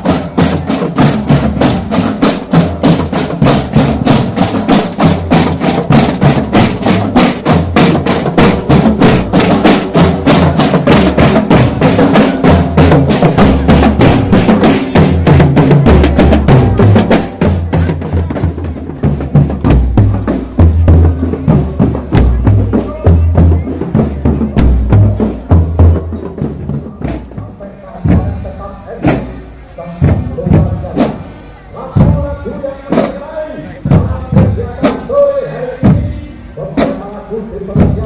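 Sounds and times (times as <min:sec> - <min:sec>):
bass drums: 0:00.0 - 0:31.3, 0:37.6 - 0:38.0
snare drums: 0:00.0 - 0:38.0.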